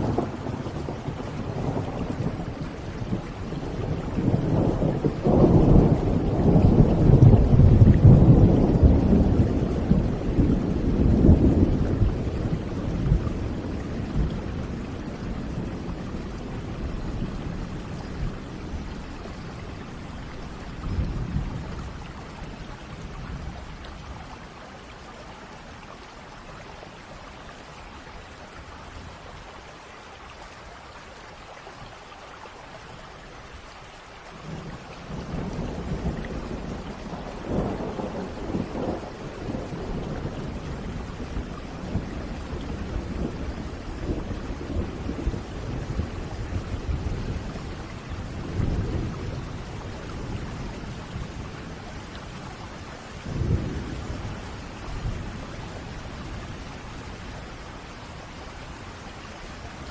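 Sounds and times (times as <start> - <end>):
thunder rumbling: 0.0 - 24.6, 34.4 - 59.9
steady rain: 0.0 - 59.9.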